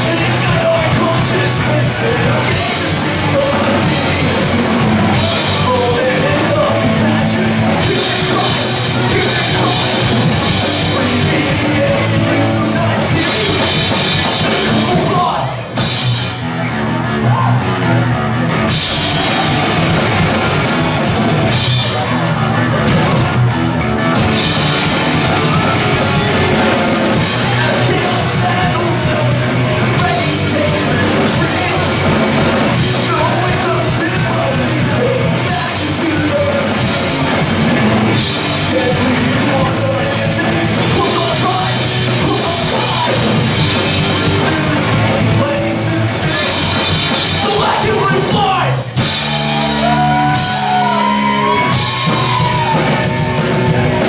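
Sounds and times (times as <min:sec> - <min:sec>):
bass guitar: 0:00.0 - 0:54.0
distorted electric guitar: 0:00.0 - 0:54.0
drum kit: 0:00.0 - 0:54.0.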